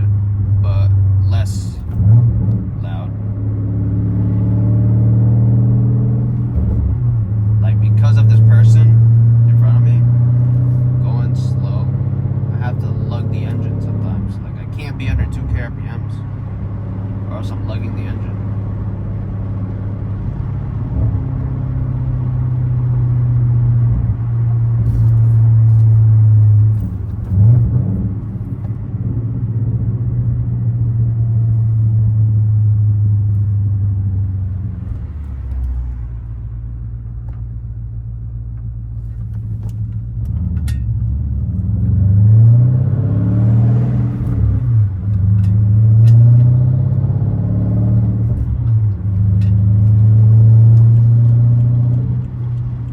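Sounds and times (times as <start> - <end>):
car exhaust drone: 0.0 - 52.9.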